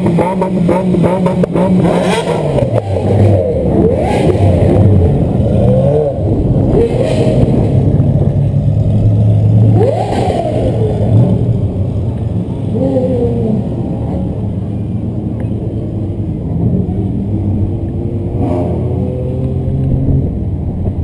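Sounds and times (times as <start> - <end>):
low engine drone: 0.0 - 21.0
sports car engines revving: 0.0 - 21.0.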